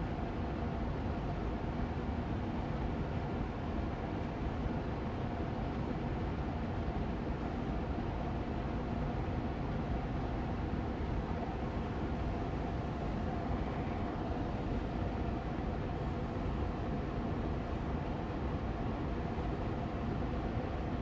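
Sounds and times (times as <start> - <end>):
air purifier fan rushing: 0.0 - 21.0.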